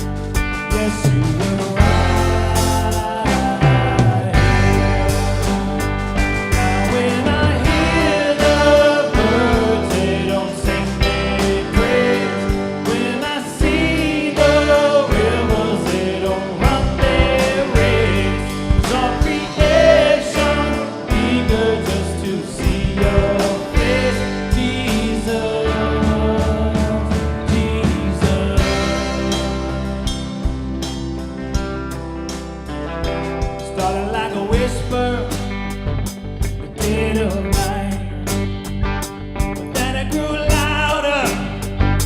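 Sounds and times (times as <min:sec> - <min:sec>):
bass: 0:00.0 - 0:42.0
drums: 0:00.0 - 0:42.0
guitar: 0:00.0 - 0:42.0
person singing: 0:00.6 - 0:30.1, 0:33.6 - 0:35.8, 0:36.6 - 0:38.5, 0:39.7 - 0:41.8.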